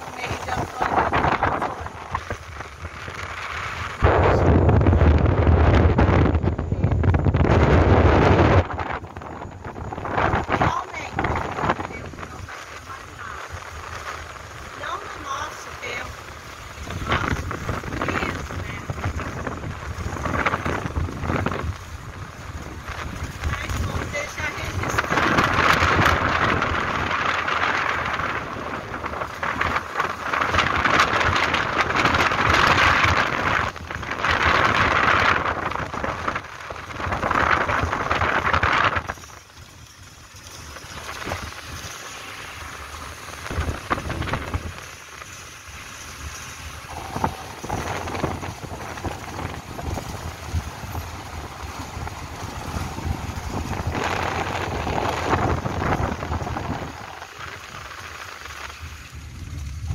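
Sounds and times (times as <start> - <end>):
tyres on dirt road: 0.0 - 59.9
wind rush: 0.0 - 59.9.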